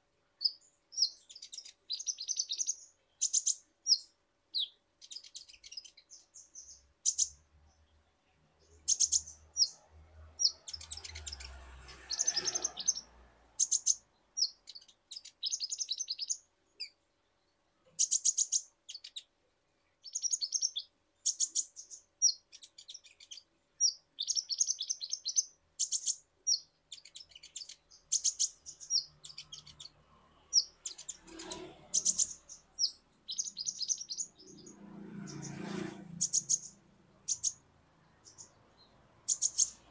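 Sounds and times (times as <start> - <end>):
bird chirping and trilling: 0.4 - 8.0, 8.6 - 17.0, 17.8 - 19.4, 20.0 - 39.9.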